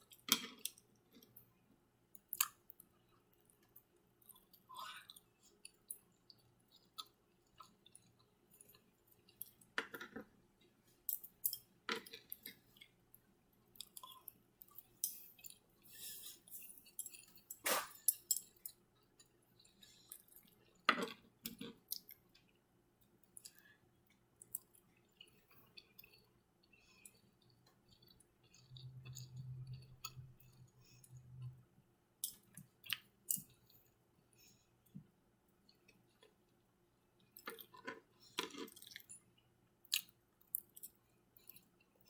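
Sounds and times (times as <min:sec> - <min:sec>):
chewing and wet mouth sounds: 0:02.2 - 0:09.8, 0:11.0 - 0:31.6, 0:32.2 - 0:34.0, 0:37.2 - 0:42.0.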